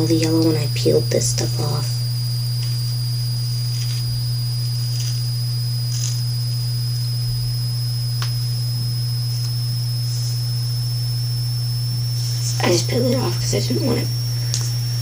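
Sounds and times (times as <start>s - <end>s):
faint high-pitched whine: 0.0s - 15.0s
low electrical hum: 0.0s - 15.0s.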